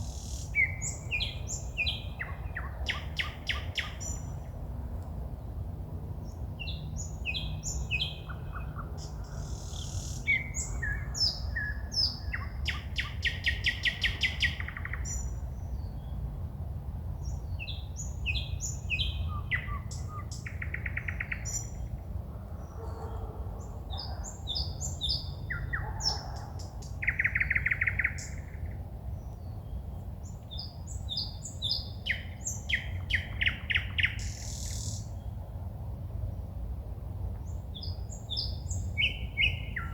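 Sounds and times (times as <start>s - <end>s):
songbird singing: 0.0s - 16.4s, 17.1s - 36.6s, 37.3s - 39.9s.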